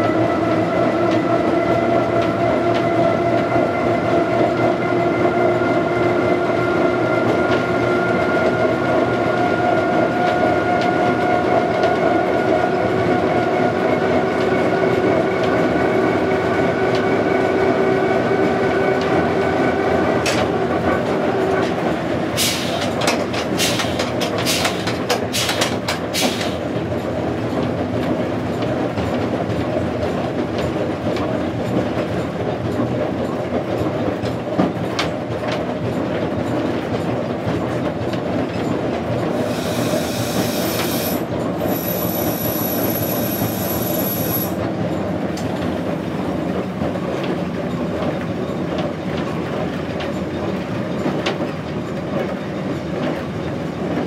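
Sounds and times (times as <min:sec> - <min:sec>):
diesel locomotive running with whine: 0:00.0 - 0:54.0.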